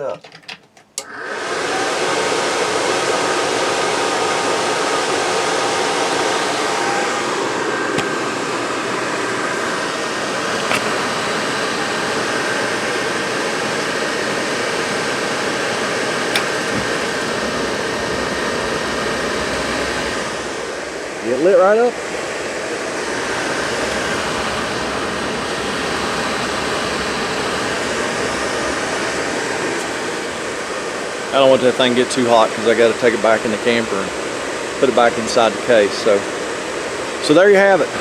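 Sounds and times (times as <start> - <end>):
furnace blower fan running: 1.0 - 38.0.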